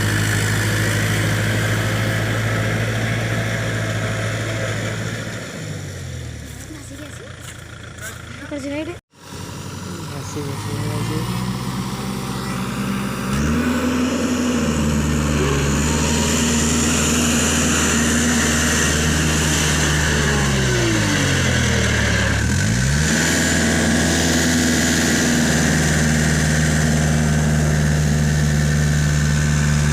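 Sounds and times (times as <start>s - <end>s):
tractor engine revving: 0.0s - 29.9s.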